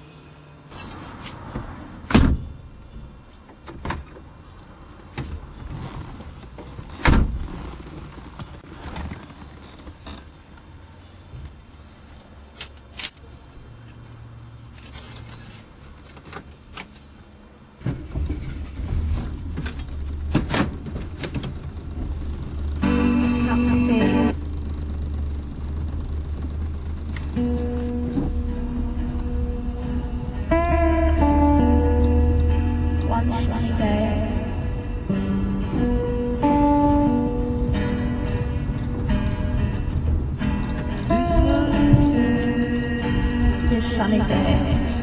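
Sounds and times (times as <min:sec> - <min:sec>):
engine and road rumble: 0:00.0 - 0:45.0.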